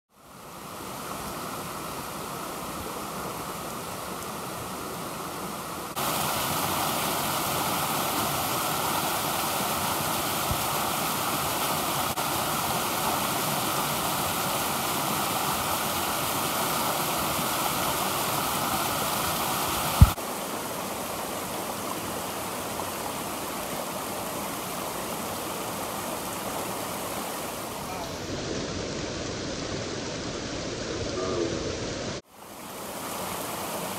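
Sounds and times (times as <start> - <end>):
stream rushing over rocks: 0.1 - 33.9.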